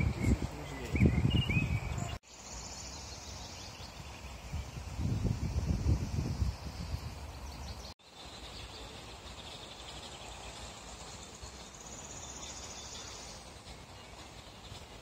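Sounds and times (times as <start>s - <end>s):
insects chirping and chirring: 2.2s - 15.0s.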